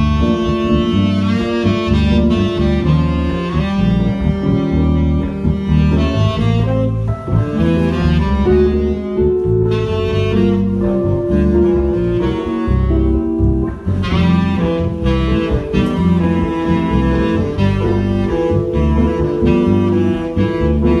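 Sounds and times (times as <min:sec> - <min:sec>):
bass line: 0:00.0 - 0:21.0
keyboard accompaniment: 0:00.0 - 0:21.0
saxophone melody: 0:00.0 - 0:21.0.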